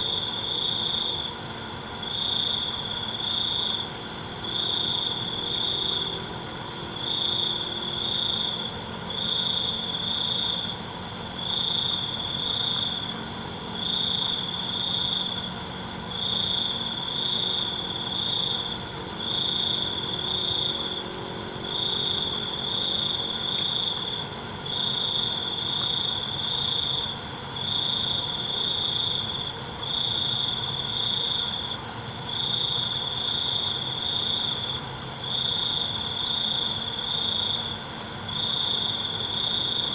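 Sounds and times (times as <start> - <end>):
cricket trilling in pulses: 0.0 - 39.9
fainter high insect trills: 0.0 - 39.9.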